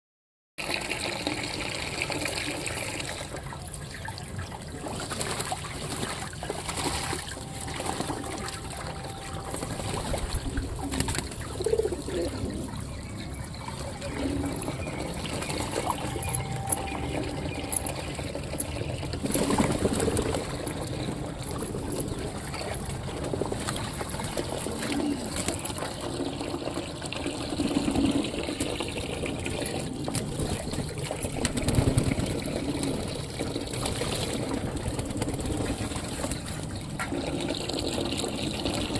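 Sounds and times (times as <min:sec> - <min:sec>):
water splashing and trickling: 0:00.6 - 0:38.9.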